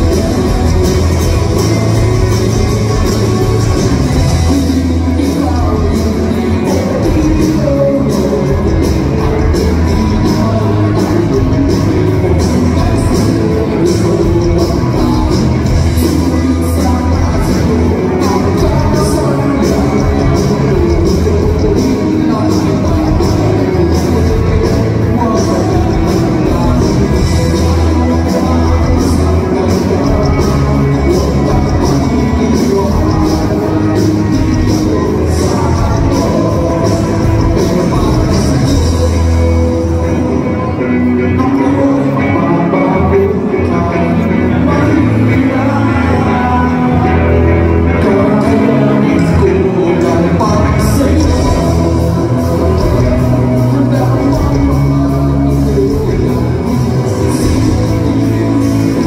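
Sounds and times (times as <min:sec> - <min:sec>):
live rock band playing: 0:00.0 - 0:59.0
male lead vocal: 0:00.0 - 0:59.0.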